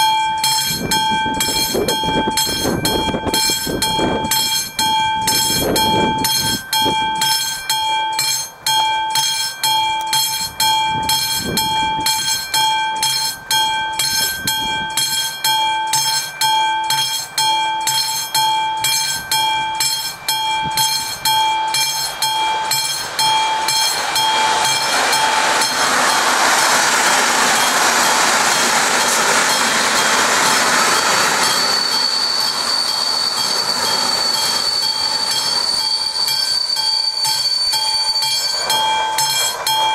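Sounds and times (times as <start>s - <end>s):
electric warning bell ringing: 0.0s - 39.9s
steady high squeal: 0.0s - 39.9s
train passing over crossing: 0.0s - 39.9s.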